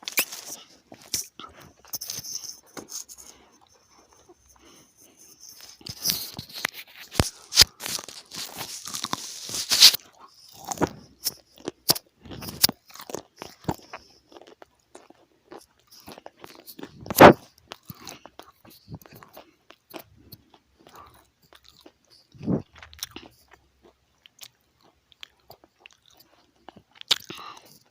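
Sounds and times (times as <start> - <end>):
crunchy food being chewed: 0.0 - 27.9.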